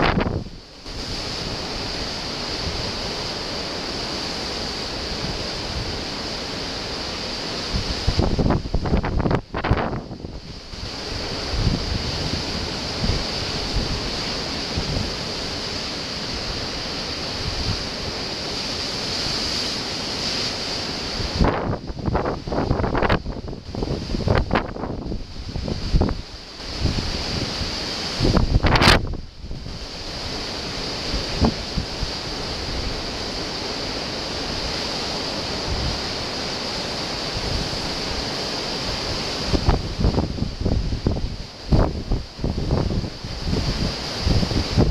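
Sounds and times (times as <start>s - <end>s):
wind buffeting microphone: 0.0s - 6.3s, 6.9s - 36.5s, 37.1s - 44.9s
surf breaking on rocks: 0.0s - 44.9s.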